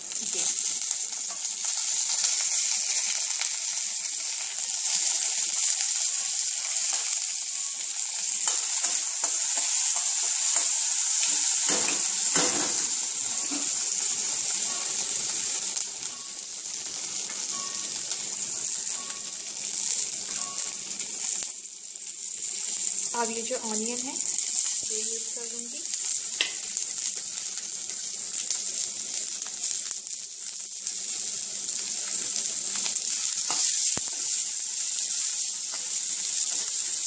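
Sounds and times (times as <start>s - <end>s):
spices sizzling in hot oil: 0.0s - 37.0s.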